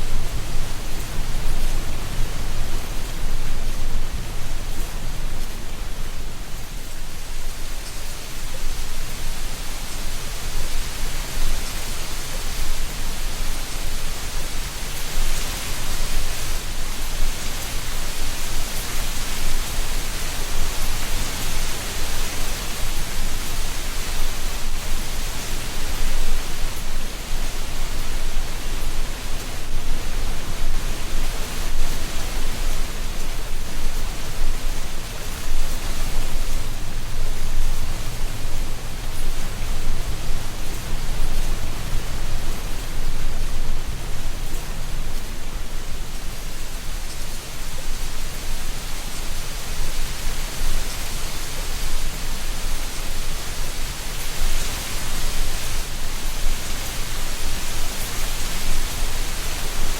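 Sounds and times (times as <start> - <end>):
wind rustling leaves: 0.0 - 59.9.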